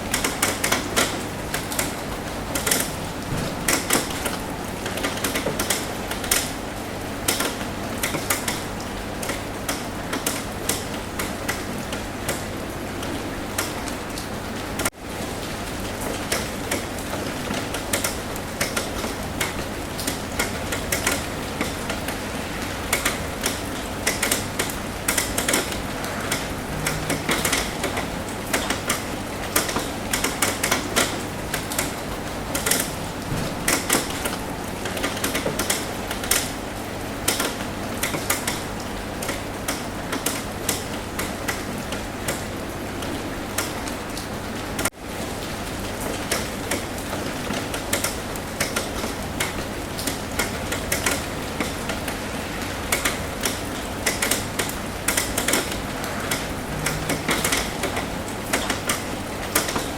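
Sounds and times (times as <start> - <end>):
rain on a roof: 0.0 - 59.9
raindrops tapping roof: 0.0 - 59.9.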